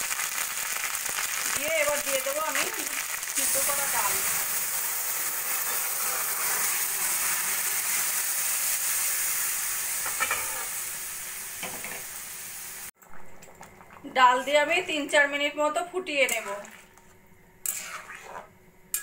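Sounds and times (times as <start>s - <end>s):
liquid sizzling in hot oil: 0.0s - 15.4s, 16.0s - 19.0s.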